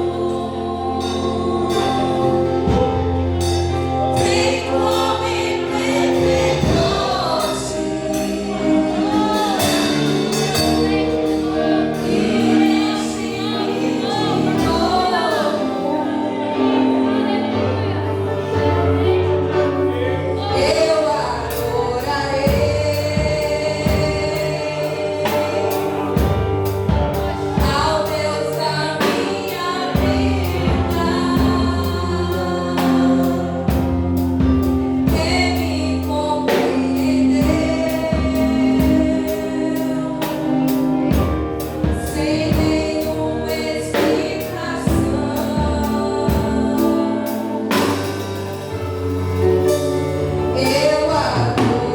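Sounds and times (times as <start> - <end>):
bass: 0.0 - 51.9
choir singing gospel song: 0.0 - 51.9
steady drum beat: 1.0 - 15.7, 20.6 - 51.9.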